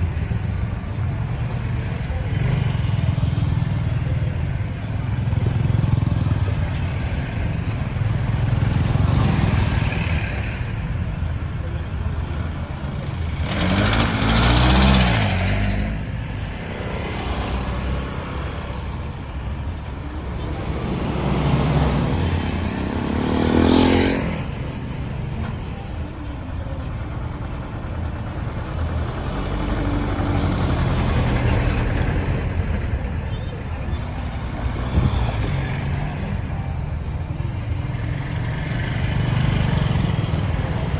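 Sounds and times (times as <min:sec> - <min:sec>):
low engine rumble of traffic: 0:00.0 - 0:40.9
vehicles passing loudly: 0:00.0 - 0:40.9.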